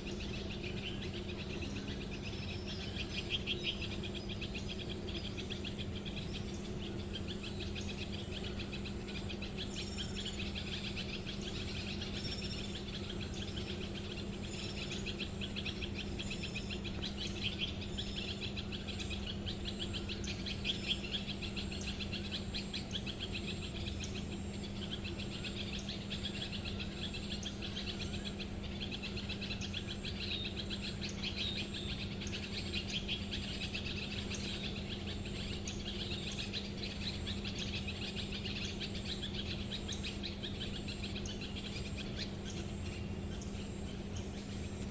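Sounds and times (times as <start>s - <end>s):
small birds chirping: 0.0s - 44.9s
steady low hum: 0.0s - 44.9s.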